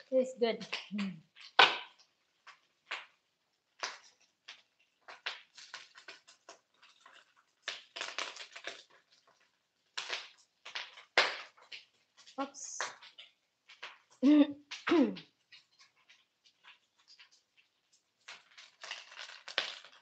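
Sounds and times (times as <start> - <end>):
meat frying in hot oil: 0.6 - 20.0.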